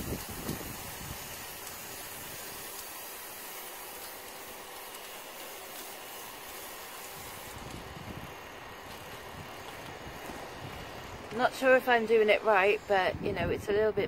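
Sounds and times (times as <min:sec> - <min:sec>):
paint spray hissing: 0:00.0 - 0:13.1.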